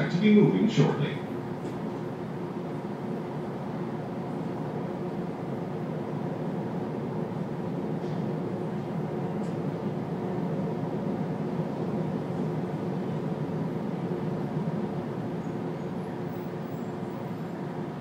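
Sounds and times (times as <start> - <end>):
railcar equipment hum: 0.0 - 18.0.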